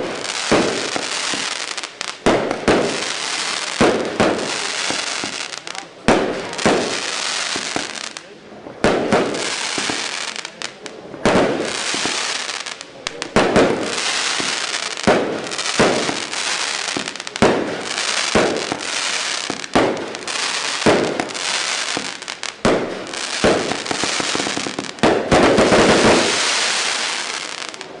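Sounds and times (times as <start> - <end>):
firework shots bursting: 0.0 - 8.2, 8.8 - 27.9
firework crackling: 0.0 - 28.0.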